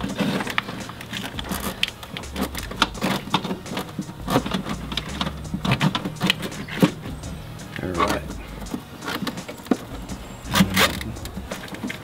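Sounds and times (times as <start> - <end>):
cable and metal hardware rattling: 0.0 - 12.0.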